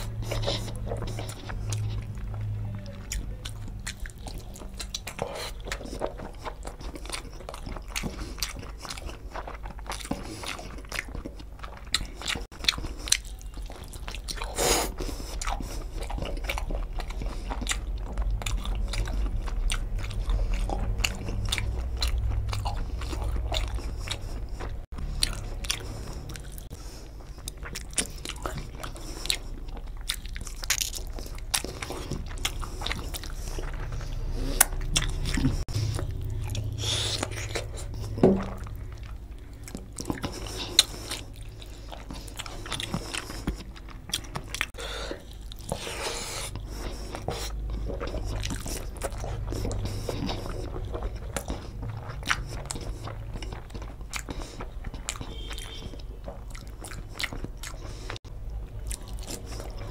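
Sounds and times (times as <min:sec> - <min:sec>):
person chewing food: 0:00.0 - 0:59.9
steady low hum: 0:00.0 - 0:59.9.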